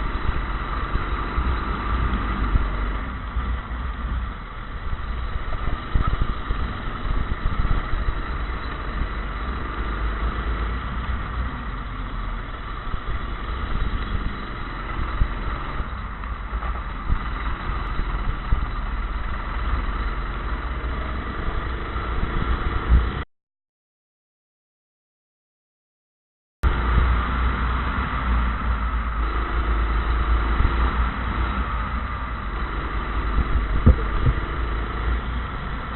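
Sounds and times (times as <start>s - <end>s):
go-kart engine running: 0.0s - 23.2s, 26.7s - 35.9s
rough rushing noise: 0.0s - 23.2s, 26.6s - 35.9s.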